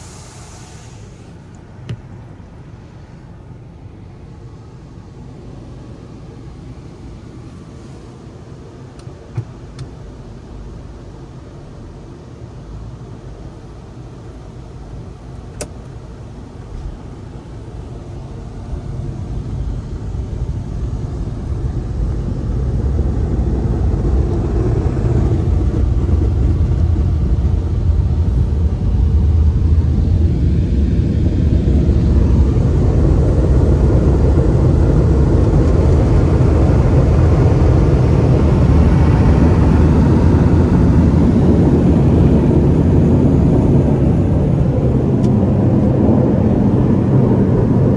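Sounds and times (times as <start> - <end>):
car wash drying blowers roaring: 0.0 - 47.9.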